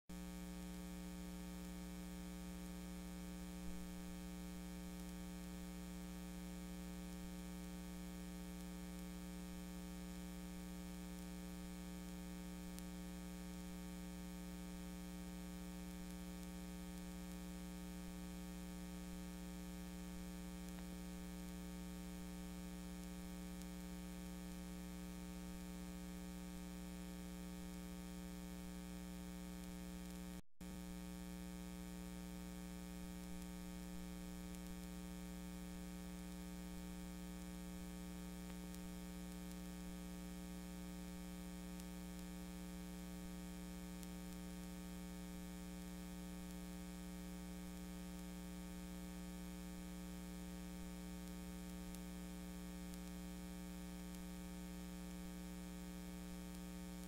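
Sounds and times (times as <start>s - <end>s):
electrical mains hum: 0.1s - 57.0s.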